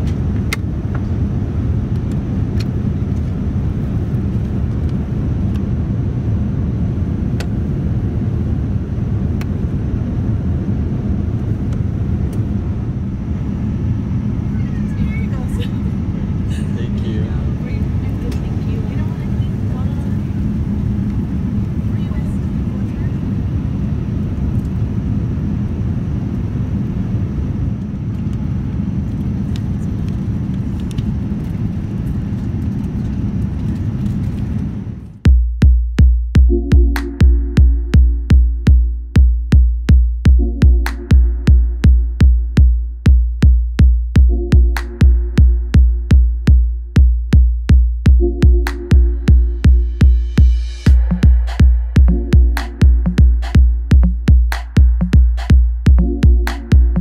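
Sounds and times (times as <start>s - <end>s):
airliner cabin roar: 0.0s - 35.3s, 44.1s - 57.0s.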